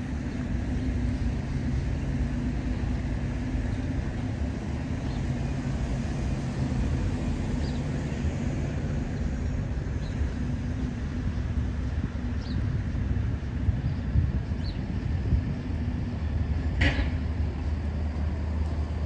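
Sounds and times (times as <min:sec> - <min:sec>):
faint constant hum: 0:00.0 - 0:19.0
low outdoor rumble: 0:00.0 - 0:19.0.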